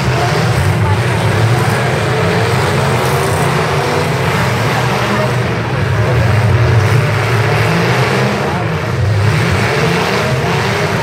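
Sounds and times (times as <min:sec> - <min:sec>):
pickup truck engines running loud: 0:00.0 - 0:11.0.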